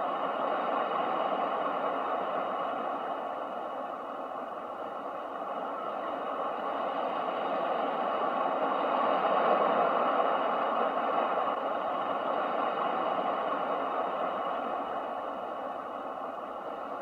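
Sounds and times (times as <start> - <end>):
ocean waves rushing: 0.0 - 17.0.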